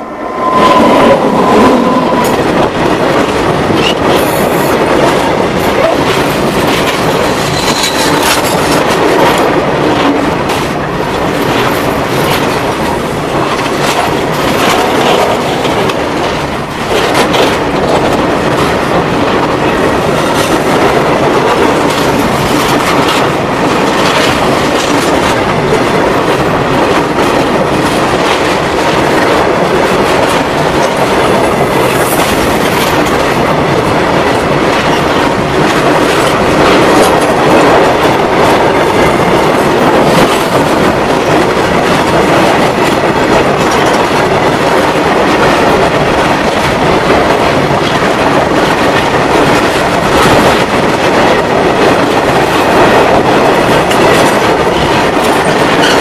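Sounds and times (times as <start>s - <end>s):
freight train rumbling overhead: 0.0s - 56.0s.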